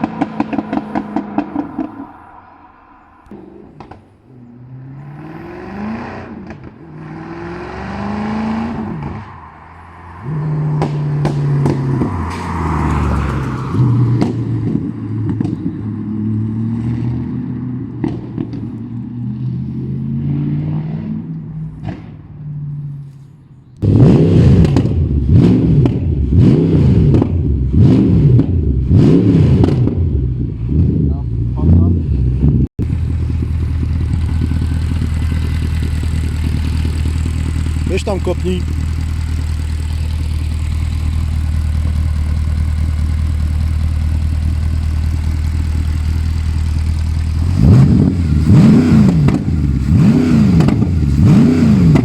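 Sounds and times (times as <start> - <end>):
car engine revving through gears: 0.0 - 9.4, 10.2 - 23.0, 23.8 - 44.7, 46.8 - 52.0.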